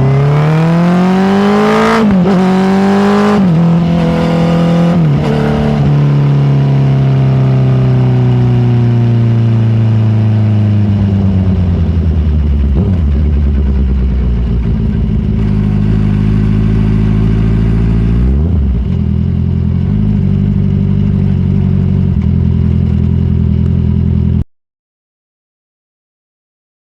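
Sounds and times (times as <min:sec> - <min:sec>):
motorcycle engine running: 0:00.0 - 0:24.4.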